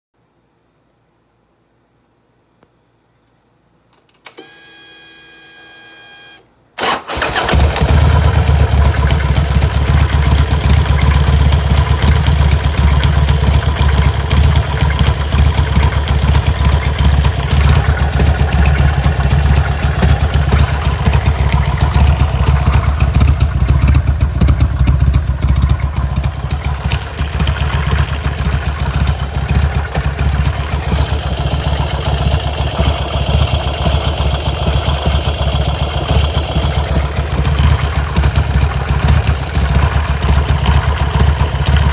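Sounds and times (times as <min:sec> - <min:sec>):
motorcycle engine starting and idling: 0:06.3 - 0:41.9.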